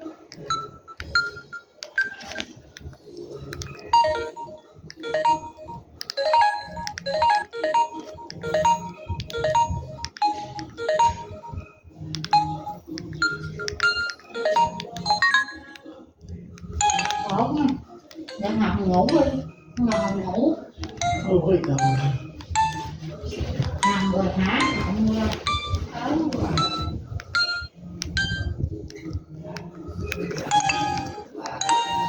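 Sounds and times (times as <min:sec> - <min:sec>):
mobile phone ringtone melody: 0:00.4 - 0:02.4, 0:03.6 - 0:15.9, 0:16.7 - 0:28.7, 0:30.3 - 0:32.0.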